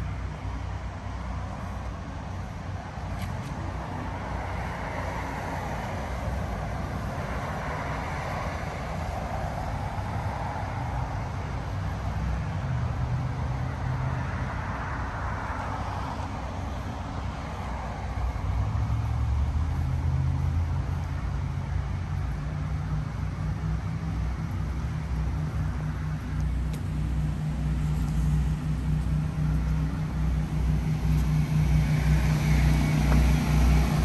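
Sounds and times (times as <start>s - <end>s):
traffic rumble: 0.0s - 34.0s
vehicles passing: 0.0s - 34.0s.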